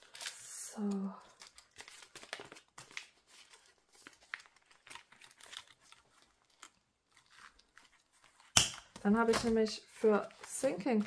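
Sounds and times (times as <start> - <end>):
plastic pouches crinkling: 0.0 - 11.0.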